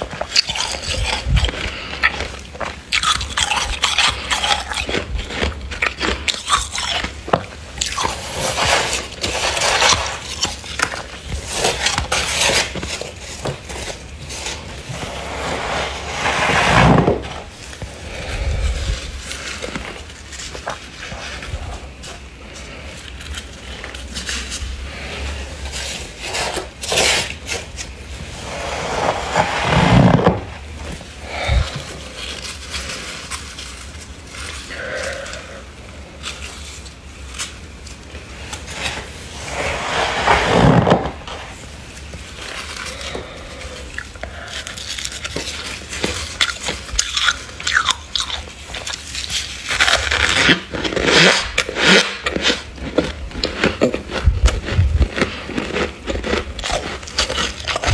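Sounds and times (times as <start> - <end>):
freezer frost crunching: 0.0 - 57.9.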